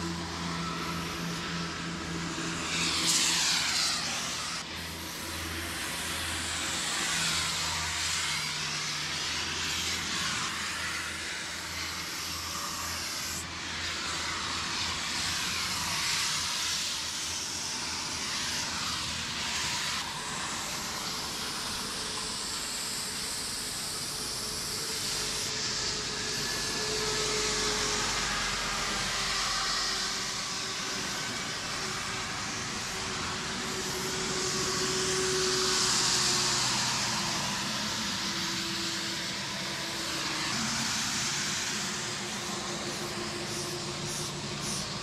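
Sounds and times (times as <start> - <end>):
spray paint can hissing: 2.7 - 8.5, 9.5 - 45.0.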